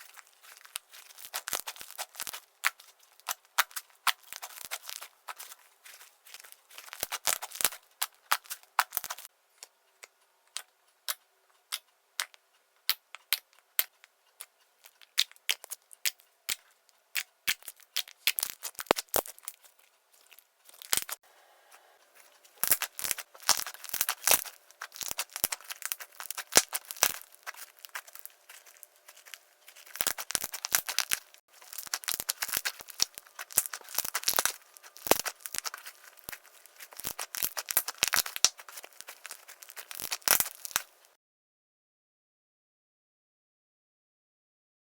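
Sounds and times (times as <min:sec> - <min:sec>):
slime crackling and popping: 0:00.0 - 0:09.3, 0:12.9 - 0:21.2, 0:22.4 - 0:41.2.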